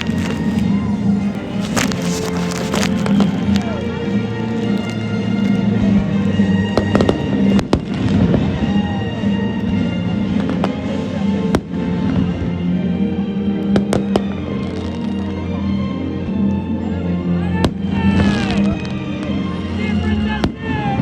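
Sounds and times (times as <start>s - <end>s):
music playing: 0.0s - 21.0s.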